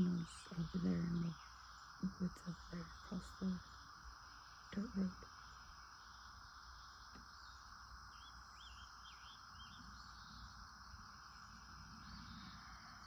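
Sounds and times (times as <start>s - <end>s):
faint bird chirps: 0.0s - 13.0s
insect drone: 0.0s - 13.0s.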